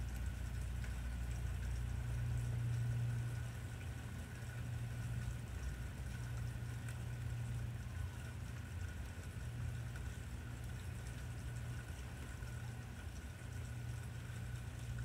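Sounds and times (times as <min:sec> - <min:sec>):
raindrops ticking: 0:00.0 - 0:15.0
storm rain low rumble: 0:00.0 - 0:15.0.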